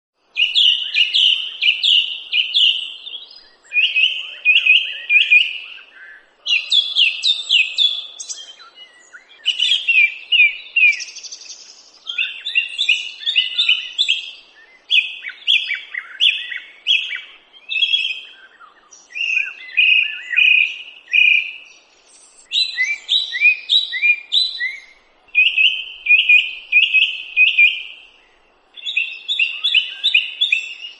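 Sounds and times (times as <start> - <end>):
songbird chirping: 0.2 - 30.9.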